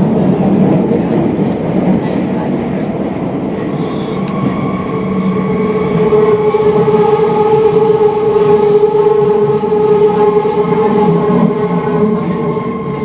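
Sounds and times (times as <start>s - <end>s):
metro train running: 0.0s - 13.0s.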